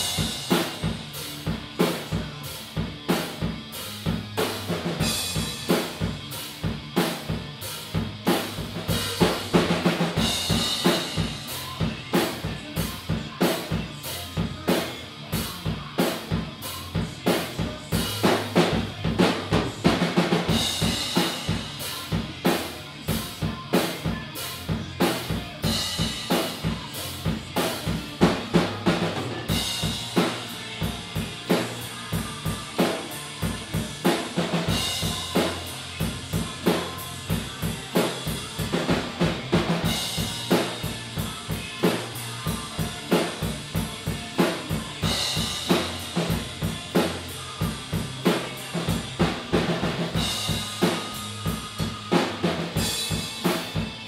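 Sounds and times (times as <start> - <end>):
rock drum beat: 0.0 - 54.0.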